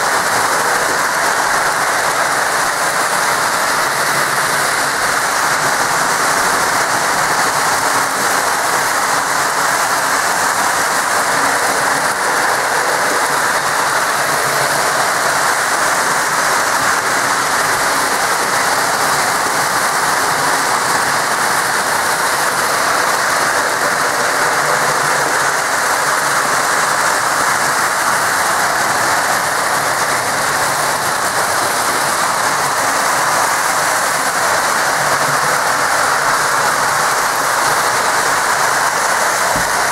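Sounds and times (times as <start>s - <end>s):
toy trains whirring and rattling: 0.0s - 39.9s.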